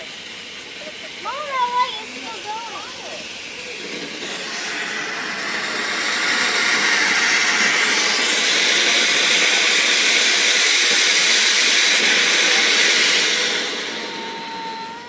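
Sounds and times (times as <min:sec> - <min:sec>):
firework hissing: 0:00.0 - 0:15.0.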